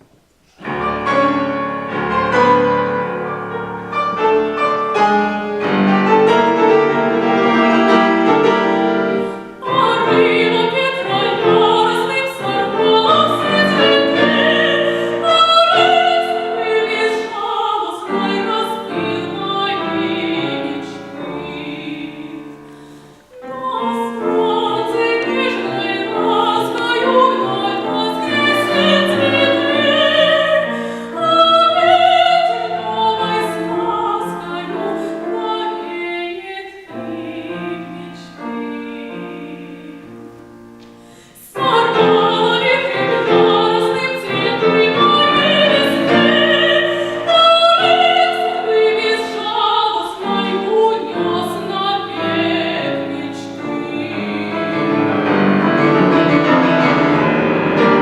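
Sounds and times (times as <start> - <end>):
piano accompaniment: 0.0 - 58.0
trained singer with vibrato: 7.3 - 40.2, 41.1 - 55.5.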